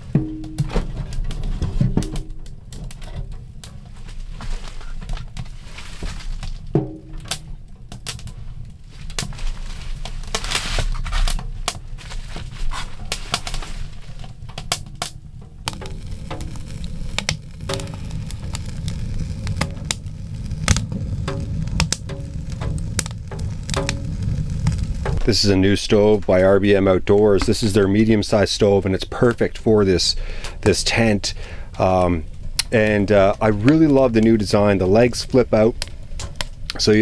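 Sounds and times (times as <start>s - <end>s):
low stove rumble: 0.0s - 37.0s
wood fire crackling and popping: 0.0s - 37.0s.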